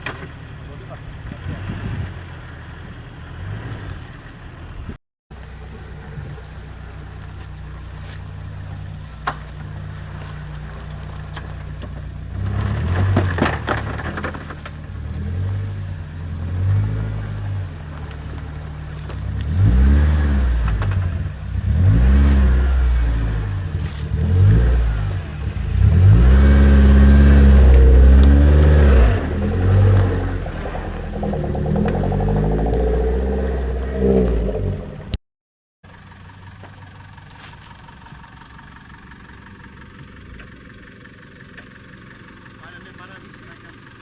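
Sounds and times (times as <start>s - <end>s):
off-road engine revving: 0.0s - 35.2s, 35.9s - 44.0s
quiet steady rumble: 0.0s - 35.2s, 35.9s - 43.8s.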